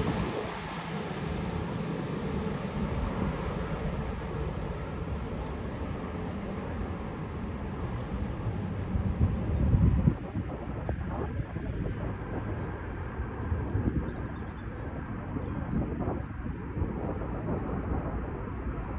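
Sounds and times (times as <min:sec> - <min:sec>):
jet engines rumble and hiss: 0:00.0 - 0:18.9.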